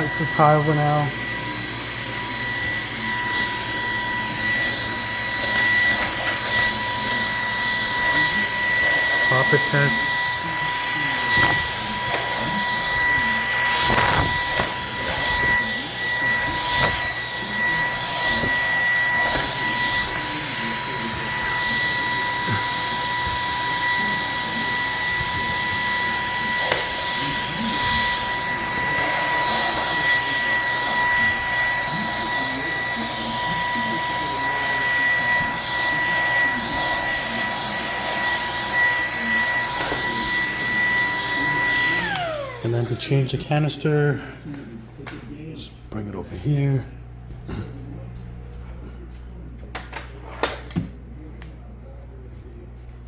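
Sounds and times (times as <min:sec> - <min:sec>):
stick vacuum running: 0:00.0 - 0:44.4
vacuum high whine: 0:00.0 - 0:53.0.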